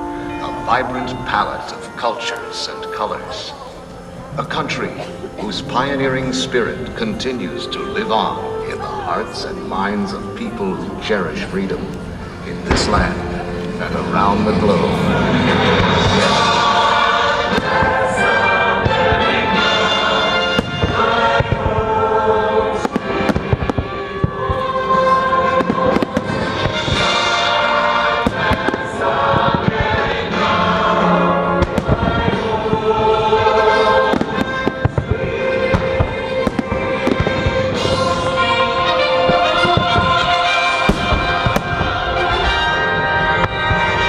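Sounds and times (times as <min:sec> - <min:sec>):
loud music: 0:00.0 - 0:44.0
fireworks bursting: 0:00.9 - 0:44.0.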